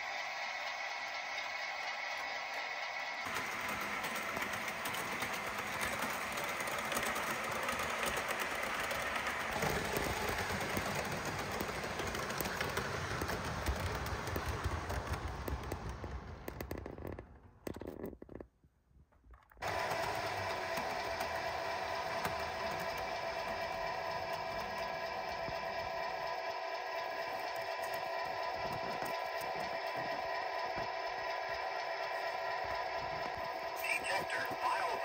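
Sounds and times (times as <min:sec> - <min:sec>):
model train motors whirring: 0:00.0 - 0:18.2, 0:19.6 - 0:35.0
wheels clicking over rails: 0:00.0 - 0:18.5, 0:19.2 - 0:35.0.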